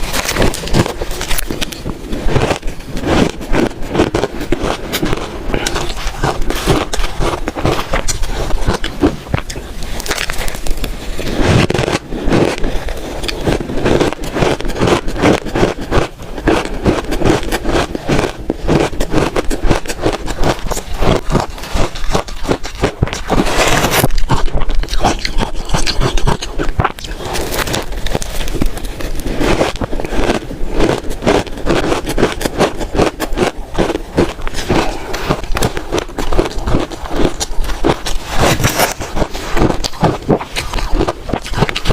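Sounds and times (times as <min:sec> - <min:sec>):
shaved ice crunching: 0:00.0 - 0:41.9.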